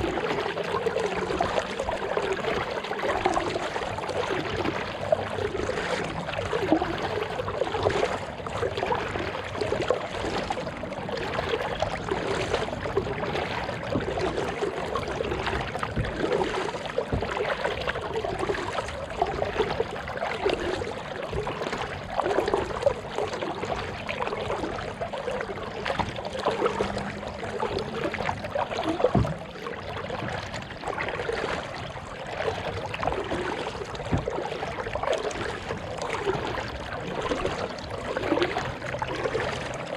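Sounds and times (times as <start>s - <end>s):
kayak paddle splashing water: 0.0s - 39.9s.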